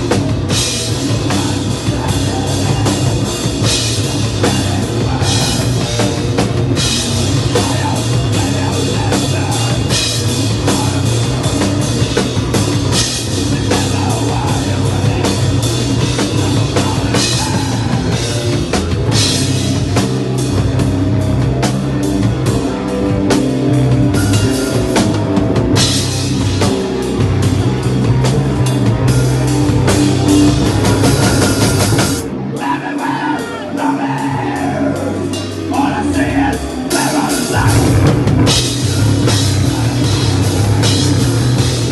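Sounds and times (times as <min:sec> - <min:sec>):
hardcore band playing live: 0:00.0 - 0:41.9
sliding guitar sounds: 0:00.0 - 0:41.9.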